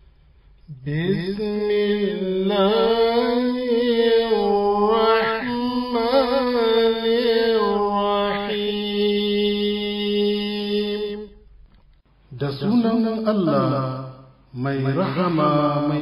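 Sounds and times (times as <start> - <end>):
man chanting melodic recitation: 0.7 - 11.4, 12.3 - 16.0.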